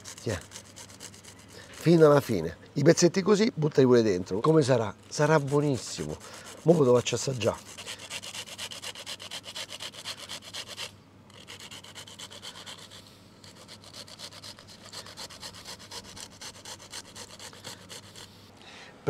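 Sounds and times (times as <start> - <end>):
truffle rasping on a metal grater: 0.0 - 2.3, 5.1 - 18.3.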